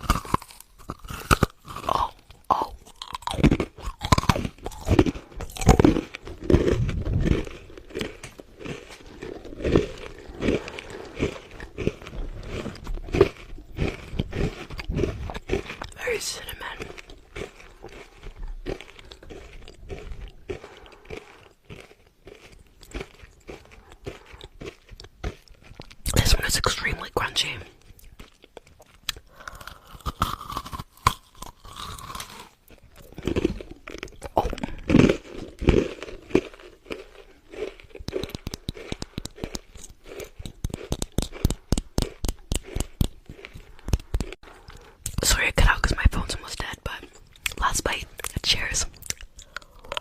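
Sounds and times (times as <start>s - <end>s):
crunchy candy chewing: 0.0s - 50.0s
wet mouth sounds: 0.0s - 50.0s.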